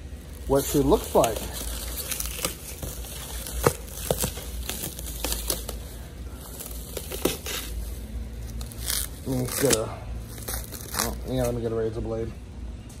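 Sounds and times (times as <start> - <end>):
plastic stretch wrap crinkling: 0.0 - 11.7.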